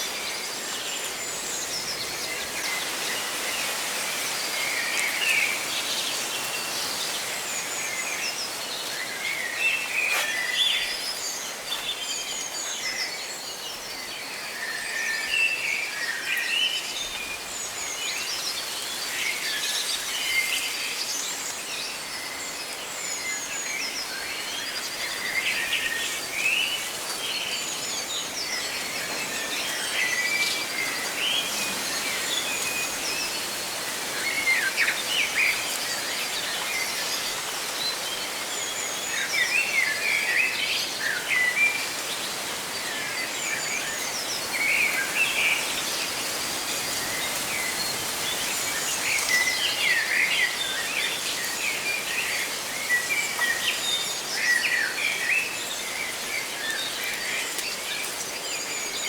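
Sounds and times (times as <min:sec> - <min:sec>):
leaves rustling in the wind: 0:00.0 - 0:59.0.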